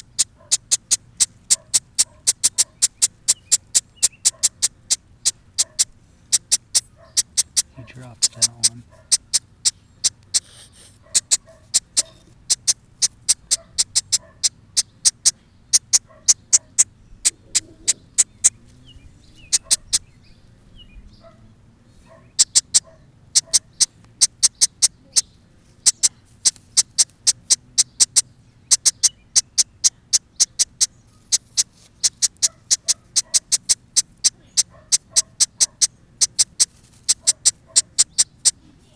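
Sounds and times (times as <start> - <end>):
baby bird begging calls: 0.0 - 38.9.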